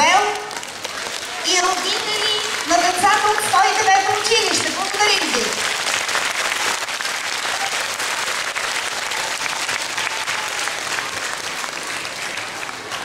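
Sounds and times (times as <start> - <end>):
audience applauding: 0.4 - 13.0.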